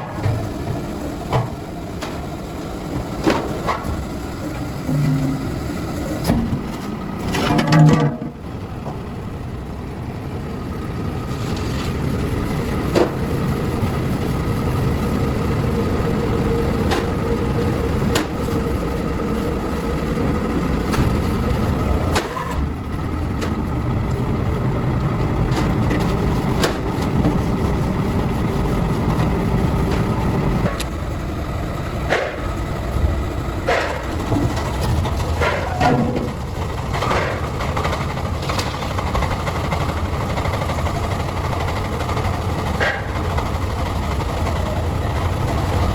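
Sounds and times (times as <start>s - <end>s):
workshop machine rumbling: 0.0s - 45.9s.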